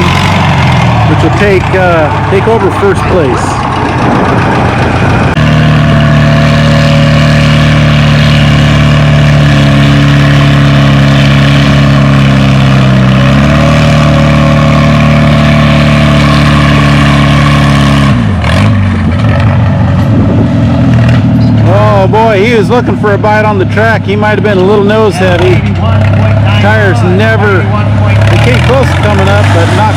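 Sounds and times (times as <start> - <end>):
tractor engine under load: 0.0 - 29.9.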